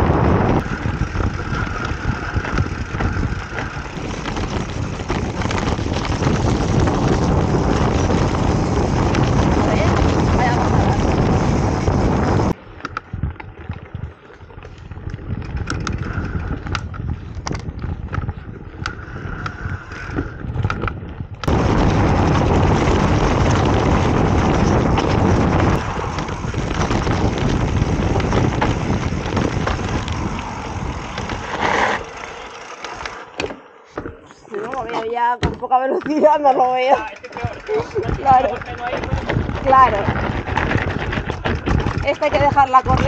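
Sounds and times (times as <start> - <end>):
wind buffeting microphone: 0.0 - 33.4, 34.1 - 43.0
bike clattering over gravel: 0.1 - 18.7, 20.6 - 43.0.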